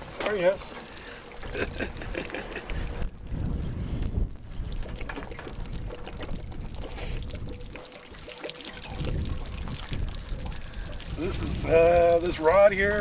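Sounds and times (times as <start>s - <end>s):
water gushing and splashing from drain: 0.0s - 13.0s.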